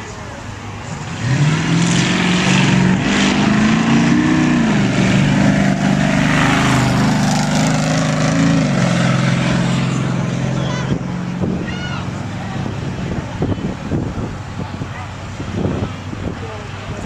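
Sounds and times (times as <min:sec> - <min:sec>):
engine revving: 0:00.8 - 0:16.3.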